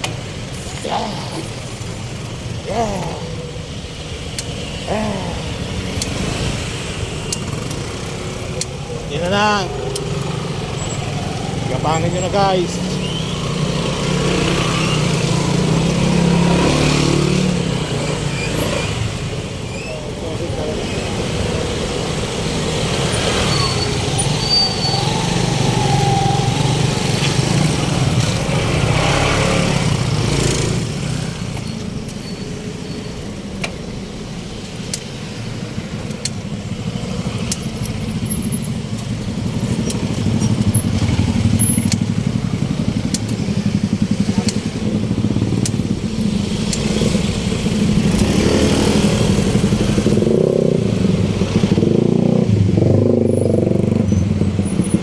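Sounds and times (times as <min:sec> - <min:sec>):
car engines passing: 0:00.0 - 0:55.0
motorcycle engines passing: 0:00.0 - 0:55.0.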